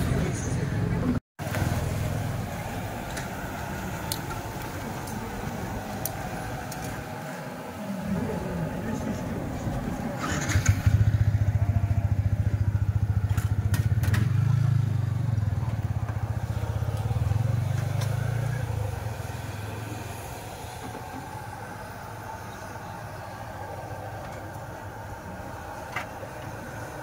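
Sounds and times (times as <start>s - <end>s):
motor engine running: 1.4s - 27.0s.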